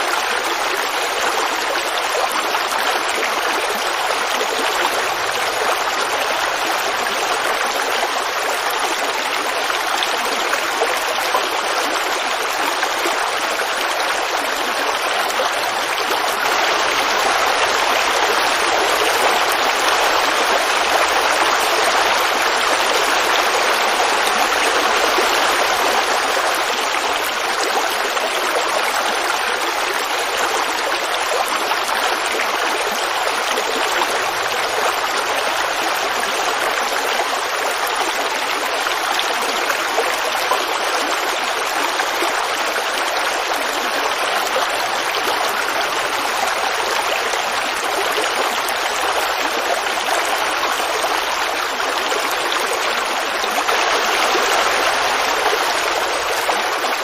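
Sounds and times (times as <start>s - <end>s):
creek babbling over rocks: 0.0s - 57.0s.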